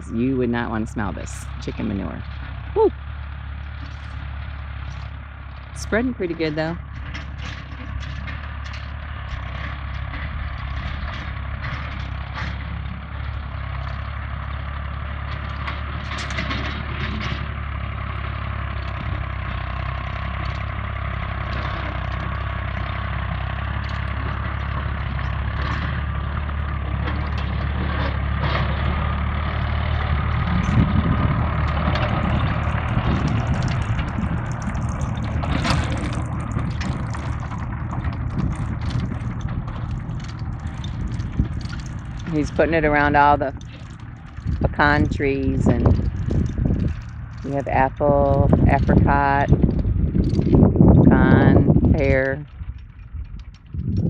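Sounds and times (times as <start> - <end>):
manure spreader clanking and rattling: 0.0 - 54.0
tractor engine running: 0.0 - 54.0.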